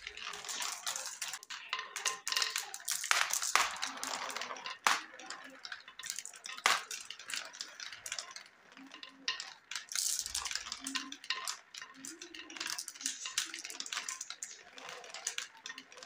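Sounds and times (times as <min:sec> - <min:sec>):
marbles clattering down marble run: 0:00.0 - 0:16.0
marbles rolling hum in funnel: 0:00.0 - 0:16.0.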